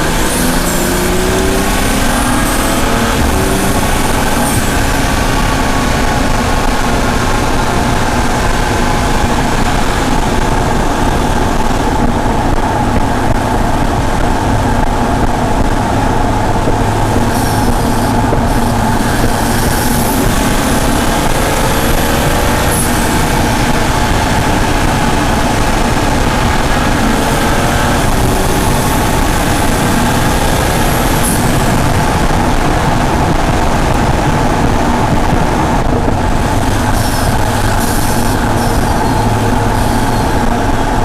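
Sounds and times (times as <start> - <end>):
car exhaust note: 0.0 - 41.0
road and wind noise: 0.0 - 41.0.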